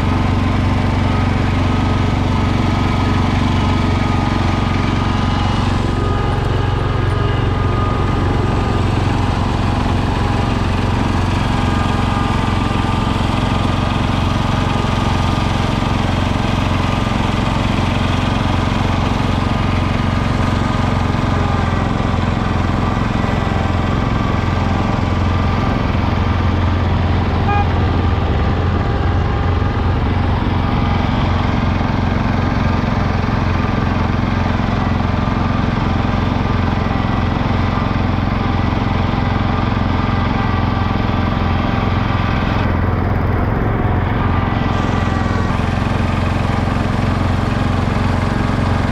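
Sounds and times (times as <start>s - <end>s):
garden tractor engine running: 0.0s - 48.9s.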